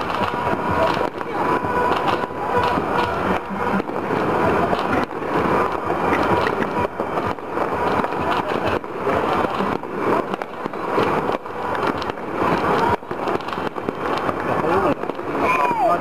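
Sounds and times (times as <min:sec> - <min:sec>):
distant firecrackers crackling and popping: 0:00.0 - 0:16.0.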